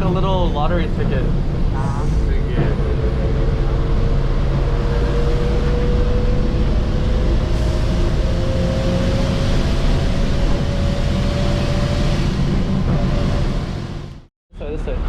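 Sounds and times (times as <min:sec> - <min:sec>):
bus engine: 0:00.0 - 0:15.0
road noise: 0:00.0 - 0:15.0.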